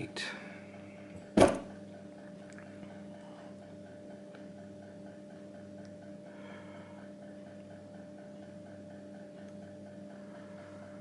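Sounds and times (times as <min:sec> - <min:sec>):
electrical hum: 0:00.0 - 0:11.0
faint regular pulsing: 0:00.0 - 0:11.0.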